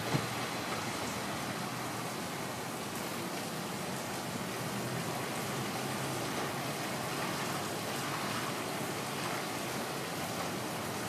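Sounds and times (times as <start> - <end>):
rain: 0.0 - 11.0
traffic on wet pavement: 0.0 - 11.0
wind: 0.0 - 11.0.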